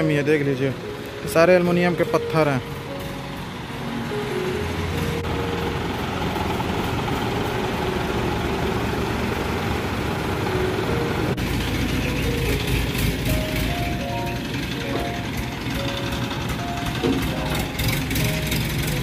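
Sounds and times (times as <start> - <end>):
crane engine low rumble: 0.0 - 19.0
forklift engine running: 0.0 - 19.0.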